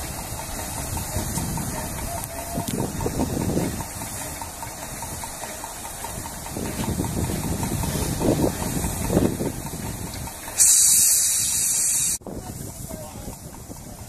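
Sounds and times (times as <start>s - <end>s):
loud hiss of steam: 0.0s - 14.0s
steam locomotive chuffs: 0.0s - 14.0s.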